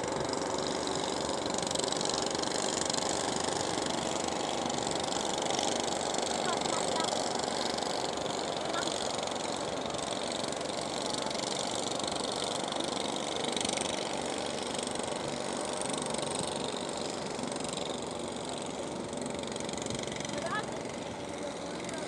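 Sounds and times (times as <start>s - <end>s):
fishing boat engines running: 0.0s - 22.0s.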